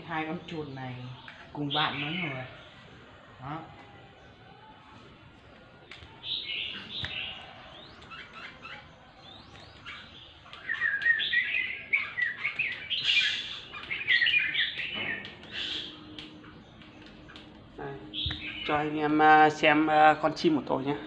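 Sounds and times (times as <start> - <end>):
songbird chirping and singing: 0.0 - 21.0.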